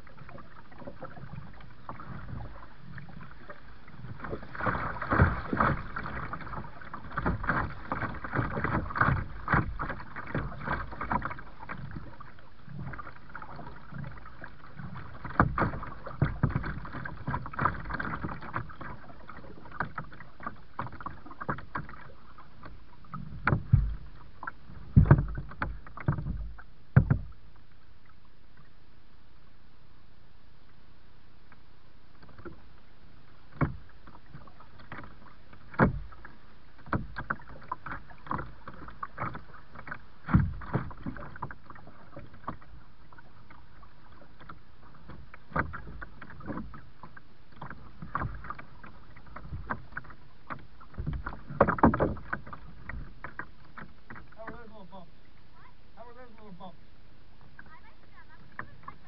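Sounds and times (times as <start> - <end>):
paddle strokes splashing water: 0.0 - 59.0.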